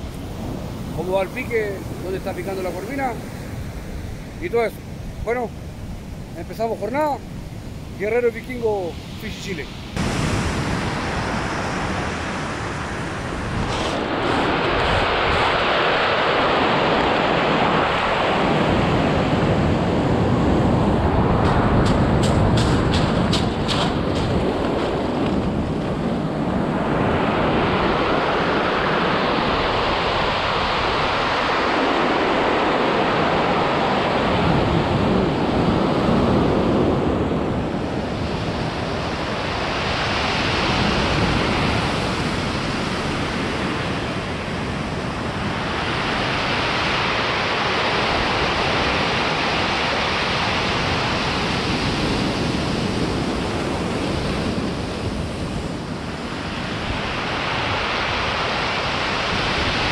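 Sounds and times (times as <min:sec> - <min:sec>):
surf washing on pebble beach: 0:00.0 - 0:59.9
wind buffeting microphone: 0:00.0 - 0:59.9.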